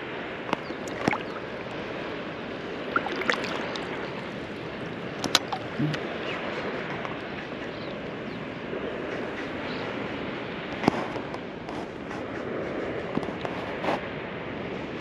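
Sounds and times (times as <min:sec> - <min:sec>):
water lapping against a float tube: 0:00.3 - 0:14.2.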